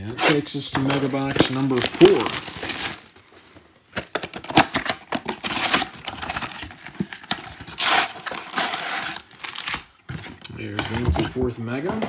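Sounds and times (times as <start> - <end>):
cardboard rustling: 0.1 - 11.8.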